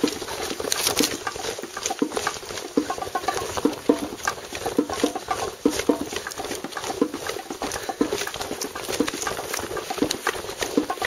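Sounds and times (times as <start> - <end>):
footsteps on grass path: 0.0 - 11.0.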